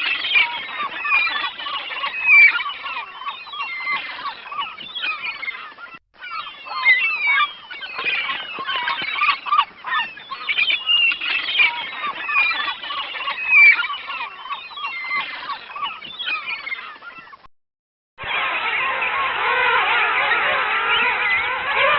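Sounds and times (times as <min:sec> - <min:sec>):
chorus of birds chirping: 0:00.0 - 0:17.5, 0:18.2 - 0:21.9.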